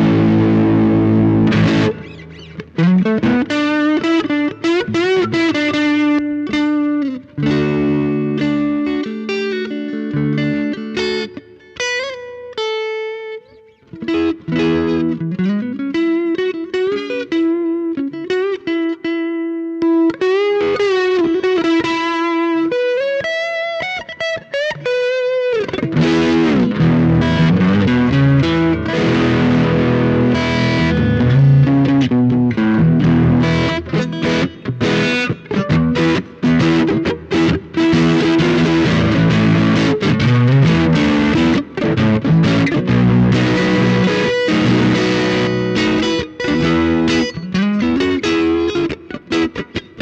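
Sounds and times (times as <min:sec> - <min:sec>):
distorted electric guitar: 0:00.0 - 0:50.0.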